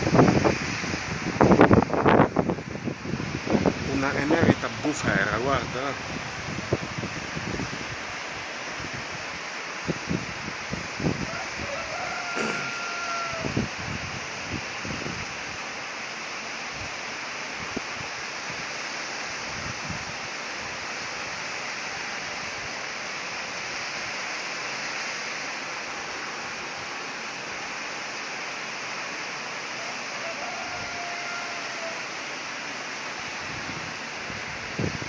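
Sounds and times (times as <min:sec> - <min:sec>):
blizzard wind rushing: 0:00.0 - 0:35.0.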